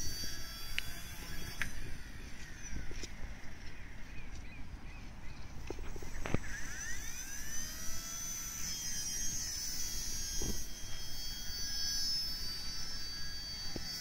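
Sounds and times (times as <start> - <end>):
rc helicopter rotor whining: 0.0 - 14.0.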